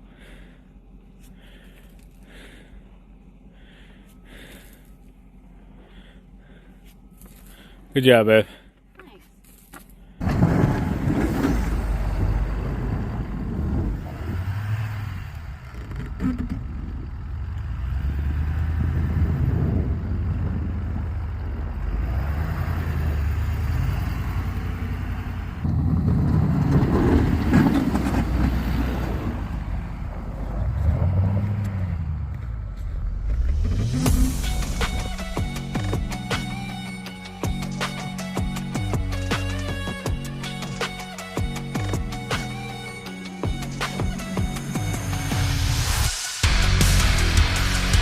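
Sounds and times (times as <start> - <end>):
engine running: 0.0 - 7.9, 8.6 - 48.0.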